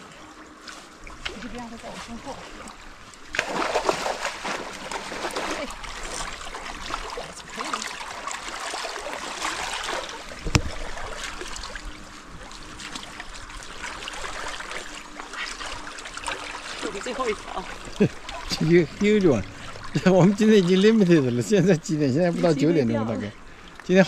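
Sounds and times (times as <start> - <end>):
river water splashing: 0.0 - 24.0.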